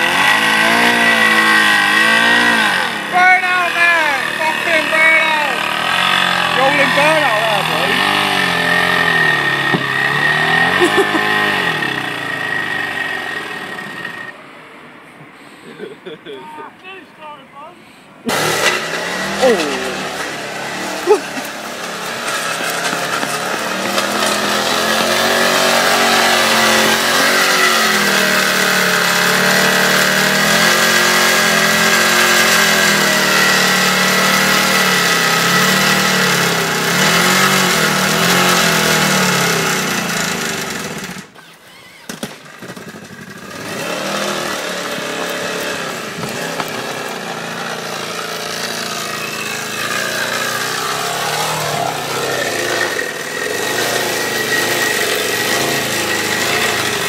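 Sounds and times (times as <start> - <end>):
motorcycle engine revving: 0.0 - 14.4, 18.2 - 57.0.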